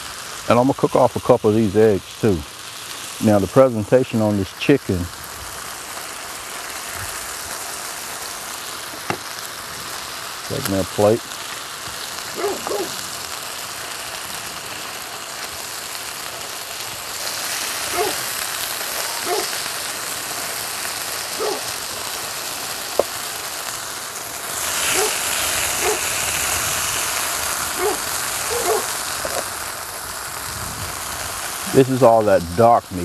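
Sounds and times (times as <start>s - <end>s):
chicken sizzling on a griddle: 0.0s - 33.0s.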